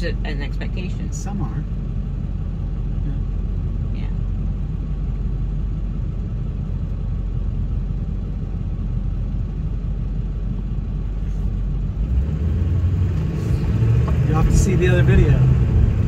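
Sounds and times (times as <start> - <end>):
engine and road noise in cab: 0.0 - 16.0.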